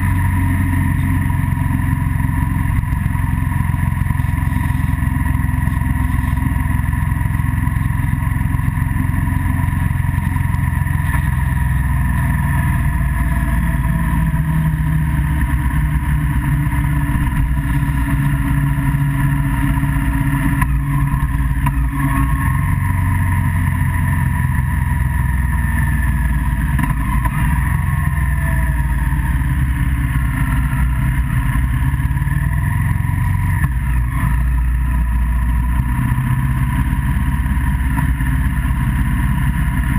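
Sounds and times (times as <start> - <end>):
road vehicle running rumble: 0.0 - 39.9.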